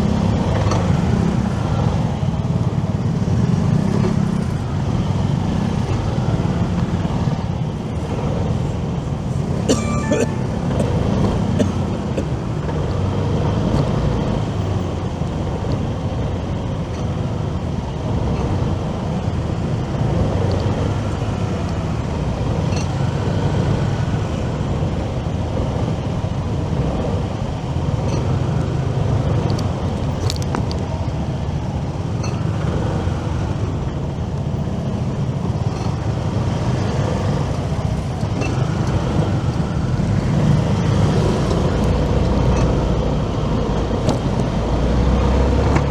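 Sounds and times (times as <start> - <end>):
city traffic noise: 0.0 - 45.9
motorcycle low rumble: 0.0 - 45.9.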